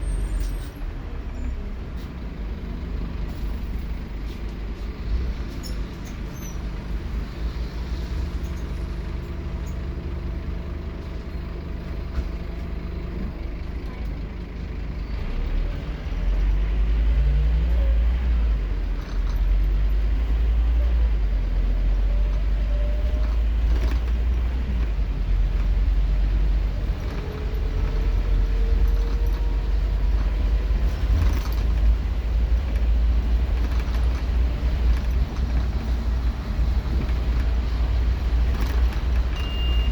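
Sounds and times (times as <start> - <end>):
bus diesel engine accelerating: 0.0 - 39.9.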